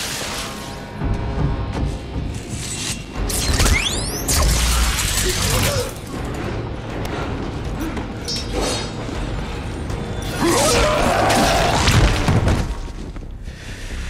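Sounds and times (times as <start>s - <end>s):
film music: 0.0s - 14.0s.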